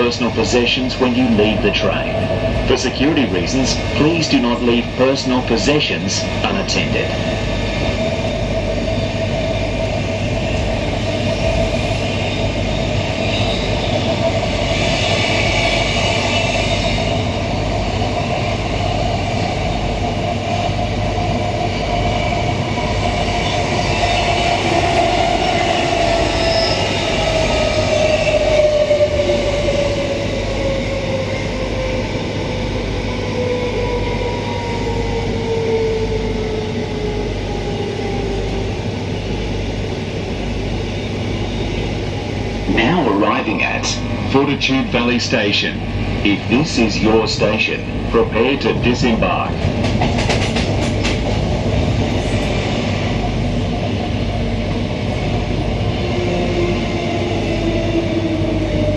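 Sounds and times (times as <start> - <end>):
train rail running noise: 0.0 - 58.9.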